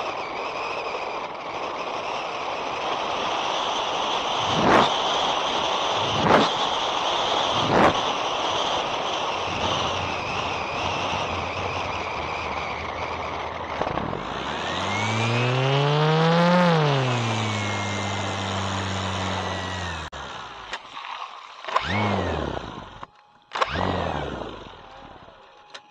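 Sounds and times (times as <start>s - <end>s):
electric motor and propeller: 0.0s - 25.9s.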